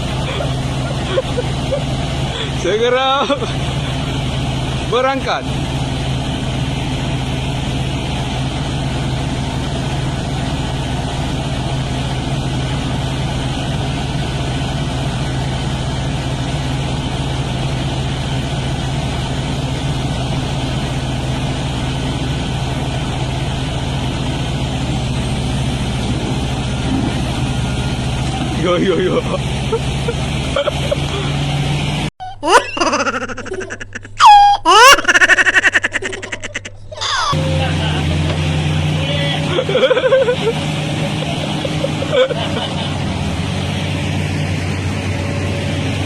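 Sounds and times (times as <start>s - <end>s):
ship engine droning: 0.0s - 46.0s.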